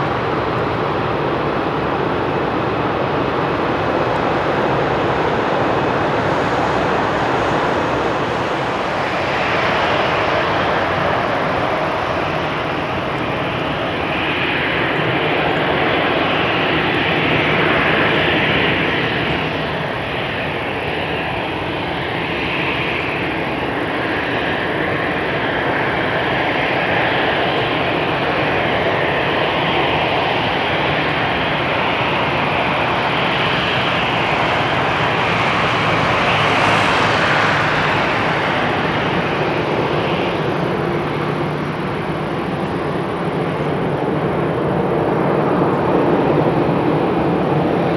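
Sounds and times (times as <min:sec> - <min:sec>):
jet engines running: 0:00.0 - 0:47.9.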